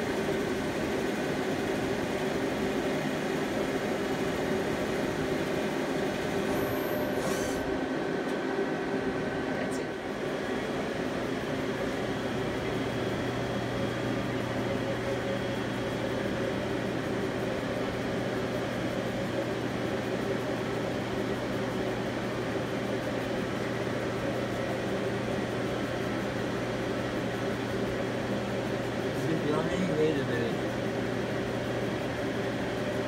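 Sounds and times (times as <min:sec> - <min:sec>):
lathe mechanical hum: 0:00.0 - 0:33.0.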